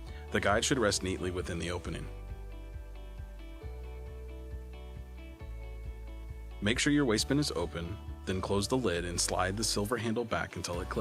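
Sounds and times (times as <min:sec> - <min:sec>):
gentle plucked background music: 0:00.0 - 0:11.0.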